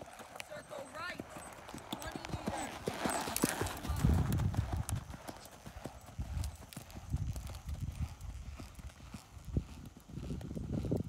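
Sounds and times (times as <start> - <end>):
horse hoofbeats on sand: 0.0 - 11.0.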